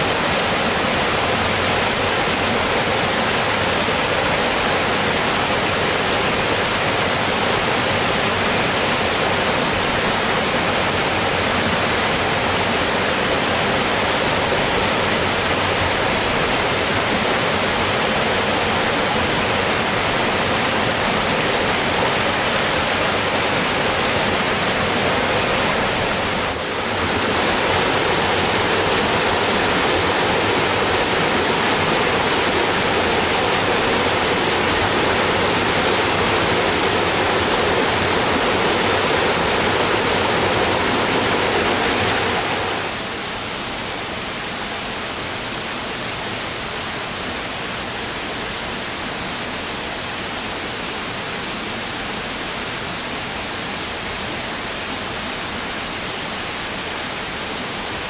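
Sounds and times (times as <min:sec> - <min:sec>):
stream cascading over rocks: 0:00.0 - 0:58.0.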